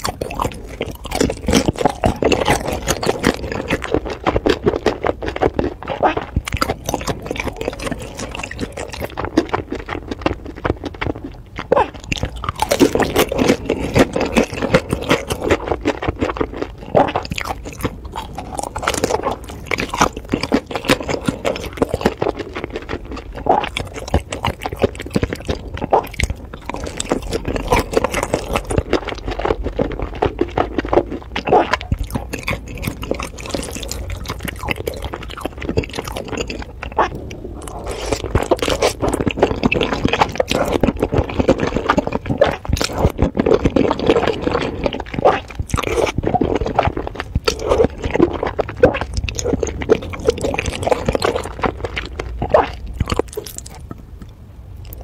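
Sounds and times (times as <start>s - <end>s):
wet chewing and slurping: 0.0s - 55.0s.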